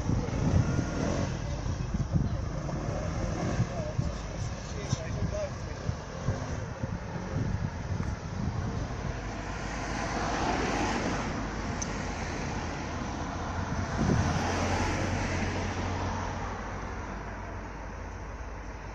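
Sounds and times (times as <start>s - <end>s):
road traffic: 0.0s - 18.9s.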